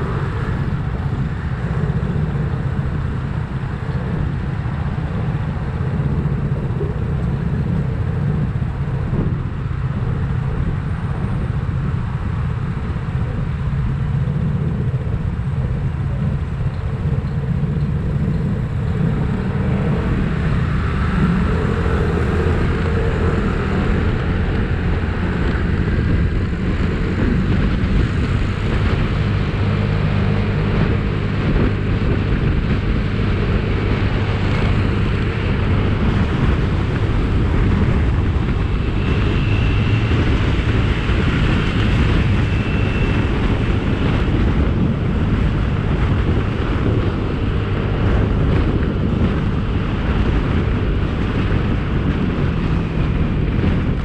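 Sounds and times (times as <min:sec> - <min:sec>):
motorbike engine running: 0:00.0 - 0:54.0
wind rushing over microphone: 0:00.0 - 0:54.0.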